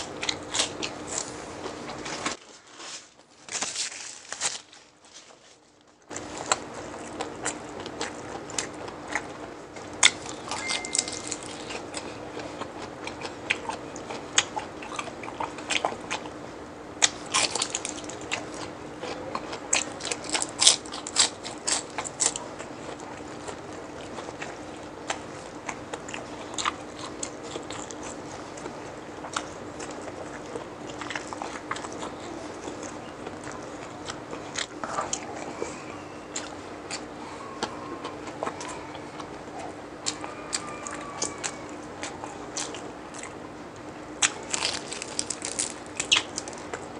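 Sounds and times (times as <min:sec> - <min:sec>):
crunchy chewing: 0:00.0 - 0:46.9
steady low hum: 0:00.0 - 0:46.9.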